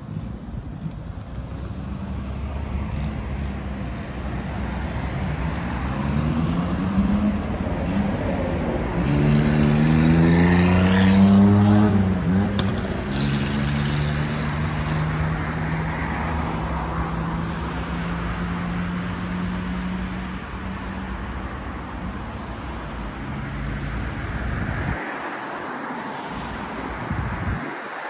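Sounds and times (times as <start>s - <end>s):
tyre and road noise: 0.0s - 28.0s.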